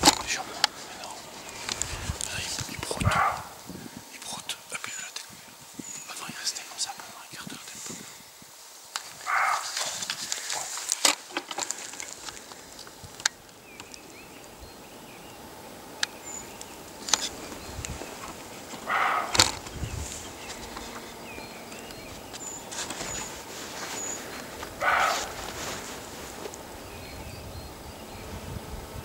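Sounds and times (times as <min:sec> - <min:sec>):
grouse hissing calls: 0:00.0 - 0:08.2, 0:09.1 - 0:27.0
small birds chirping: 0:00.0 - 0:29.0.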